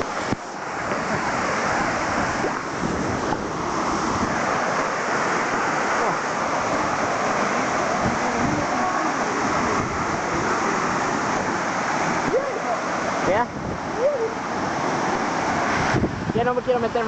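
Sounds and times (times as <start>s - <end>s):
waterfall pouring: 0.0s - 17.0s.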